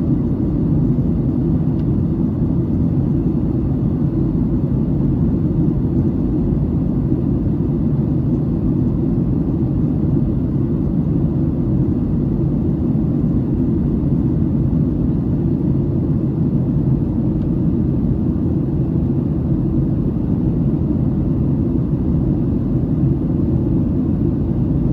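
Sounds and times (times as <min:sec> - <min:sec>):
airliner cabin engine rumble: 0:00.0 - 0:24.9.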